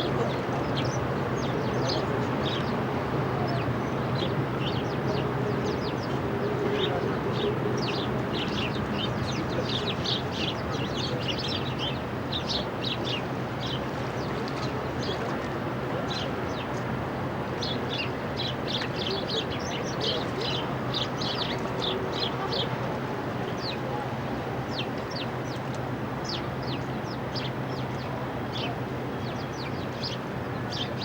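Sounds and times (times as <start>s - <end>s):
street noise rumble and hum: 0.0s - 31.0s.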